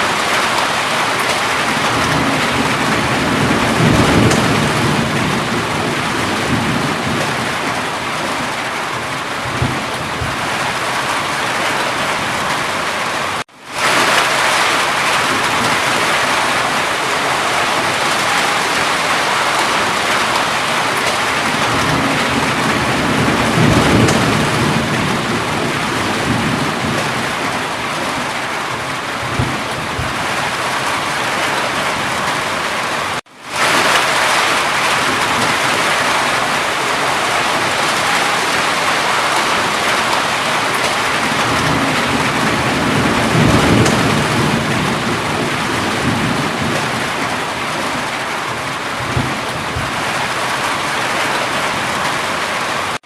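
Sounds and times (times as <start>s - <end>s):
thunder rolling: 0.0s - 52.2s
heavy rain pouring: 0.0s - 53.0s.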